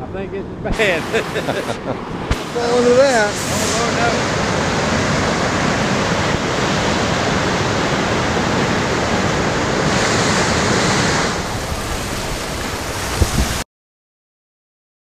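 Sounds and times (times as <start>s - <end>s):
floodwater rushing: 0.8s - 13.6s.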